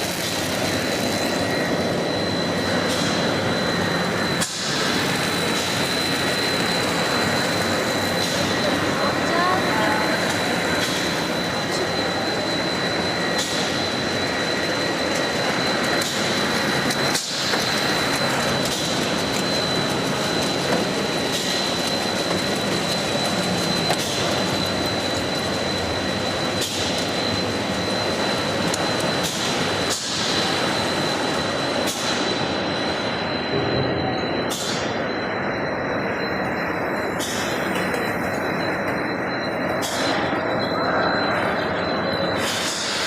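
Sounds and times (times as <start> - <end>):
high-pitched machine whine: 0.0 - 43.0
production line machinery din: 0.0 - 43.0.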